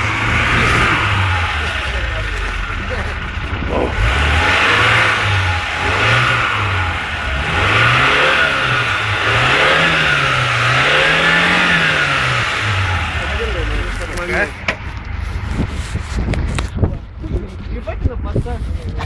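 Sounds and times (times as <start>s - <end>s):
car engine revving: 0.0s - 16.8s.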